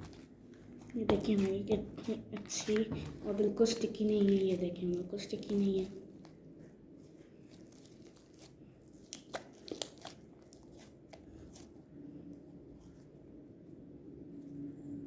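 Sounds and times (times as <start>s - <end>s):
slime crackling: 0.0s - 13.2s.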